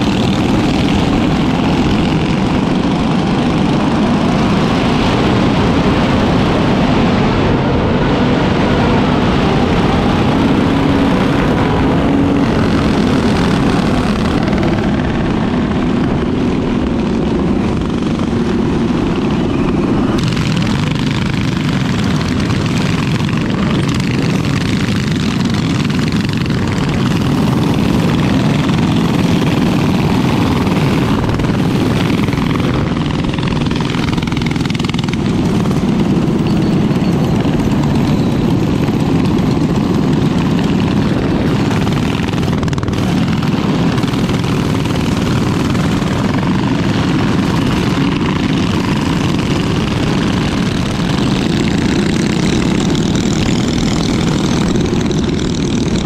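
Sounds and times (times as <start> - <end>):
mini bike engine running: 0.0 - 56.0.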